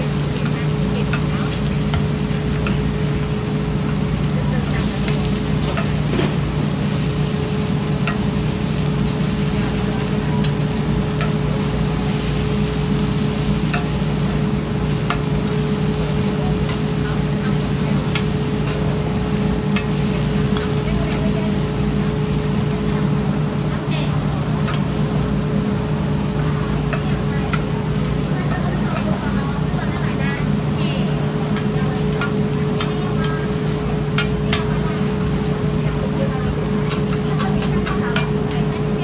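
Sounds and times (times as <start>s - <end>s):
omelette sizzling on griddle: 0.0s - 39.0s.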